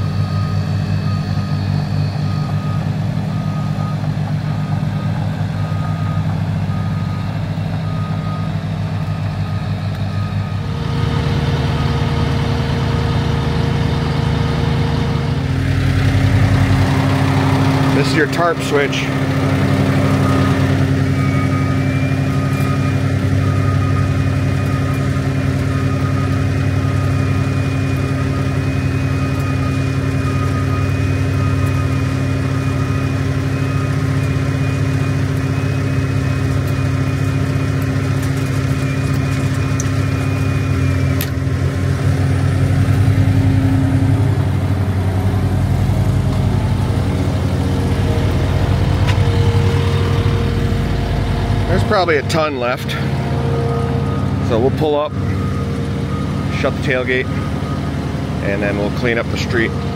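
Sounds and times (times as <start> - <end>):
diesel truck engine idling: 0.0 - 59.9
electric tarp motor whining: 0.0 - 59.9.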